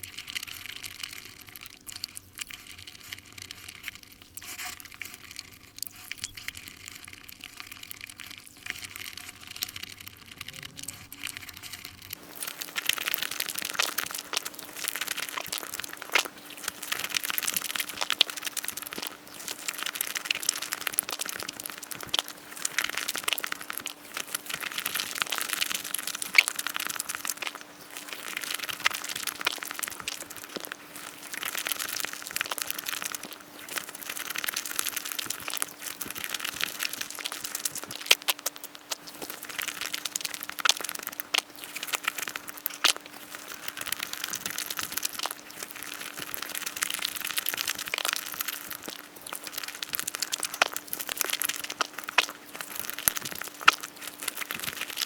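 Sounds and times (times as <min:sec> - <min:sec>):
chewing and sticky mouth noises: 0:09.8 - 0:55.0.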